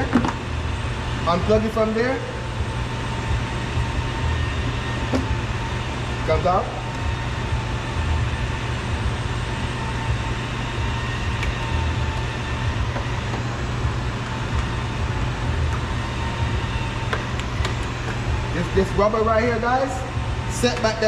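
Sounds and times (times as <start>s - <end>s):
faint constant whine: 0.0s - 21.0s
low hum and hiss: 0.0s - 21.0s.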